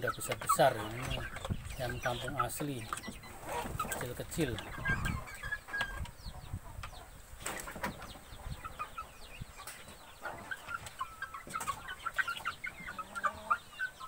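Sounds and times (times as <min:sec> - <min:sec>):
chicks peeping and clucking: 0:00.0 - 0:14.0.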